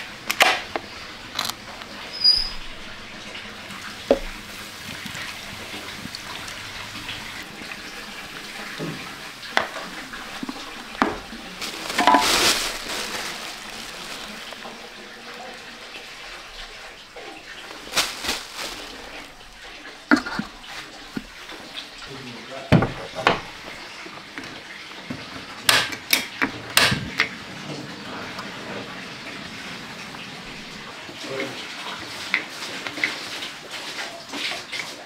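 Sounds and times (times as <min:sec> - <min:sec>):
beer pouring and splashing: 0:00.0 - 0:35.0.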